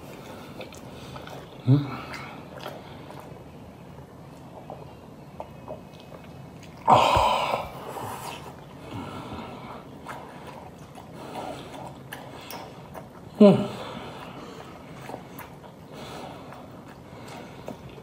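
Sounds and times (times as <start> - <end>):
person chewing close to microphone: 0.0 - 18.0.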